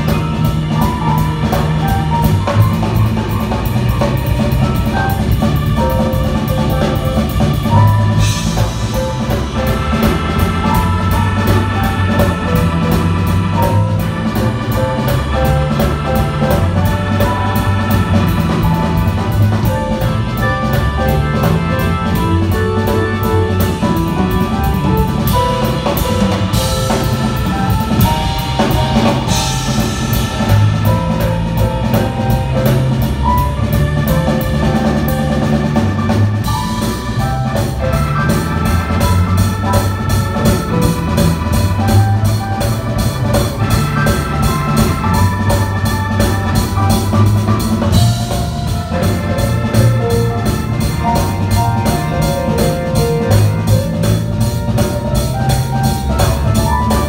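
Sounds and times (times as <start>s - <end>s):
bass line: 0.0s - 57.0s
drum kit cymbal beat: 0.0s - 57.0s
electric keyboard chords: 0.0s - 57.0s.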